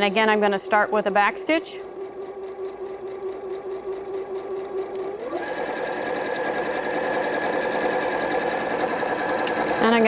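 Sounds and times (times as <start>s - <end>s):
sewing machine whirring: 0.0s - 10.0s.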